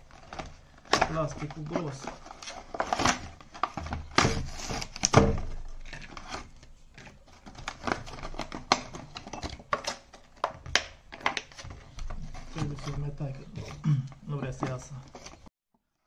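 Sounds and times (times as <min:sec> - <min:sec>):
stiff plastic packaging cracking: 0:00.0 - 0:15.5.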